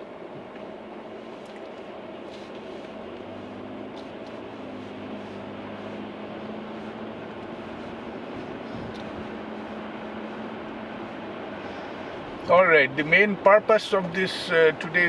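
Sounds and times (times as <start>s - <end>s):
bus engine running alongside: 0.0s - 15.0s
deeper engine hum: 0.0s - 15.0s
traffic on wet street: 0.0s - 15.0s.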